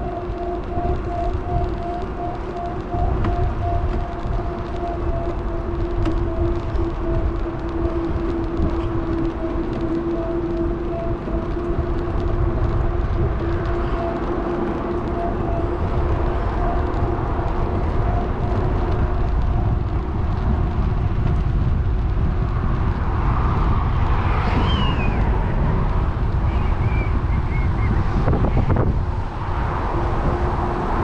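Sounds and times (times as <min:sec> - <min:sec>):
electric bike rumble: 0:00.0 - 0:31.0
wind on camera microphone: 0:00.0 - 0:31.0.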